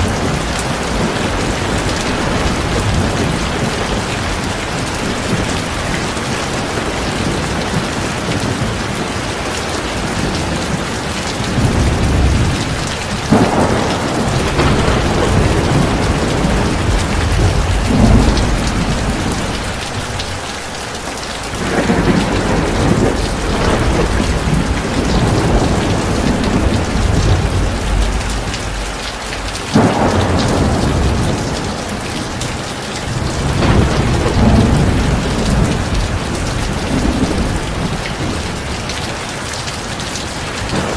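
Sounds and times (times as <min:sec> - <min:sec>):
heavy rain pouring: 0:00.0 - 0:40.9
thunder rumbling: 0:00.0 - 0:40.9.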